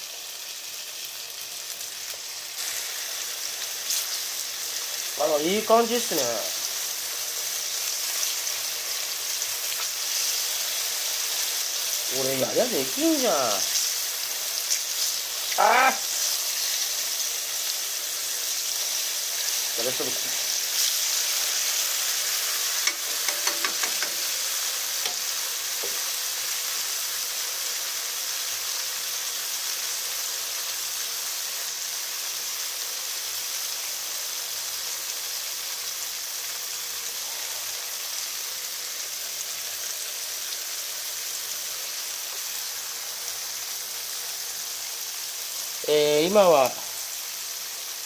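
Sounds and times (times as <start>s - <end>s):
tofu sizzling in oil: 0.0s - 48.0s.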